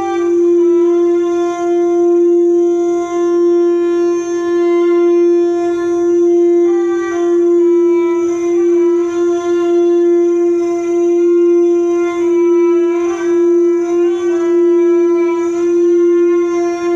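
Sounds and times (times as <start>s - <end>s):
reed instrument drone with melody: 0.0s - 16.9s.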